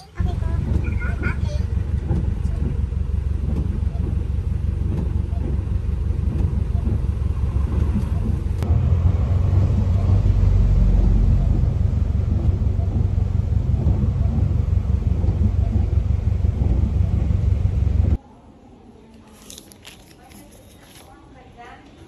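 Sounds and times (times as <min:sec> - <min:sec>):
car engine rumble: 0:00.0 - 0:18.2
road noise inside car: 0:00.0 - 0:18.2.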